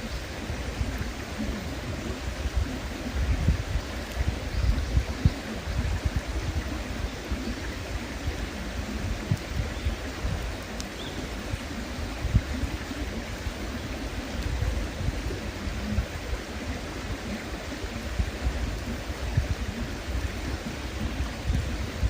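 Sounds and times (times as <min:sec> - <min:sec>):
campfire popping and crackling: 0:00.0 - 0:22.0
river rushing: 0:00.0 - 0:22.0.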